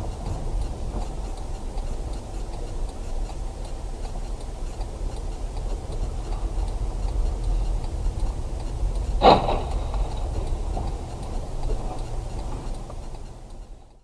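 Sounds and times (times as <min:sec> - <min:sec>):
car engine and road rumble: 0:00.0 - 0:14.0
faint ticking: 0:00.0 - 0:14.0.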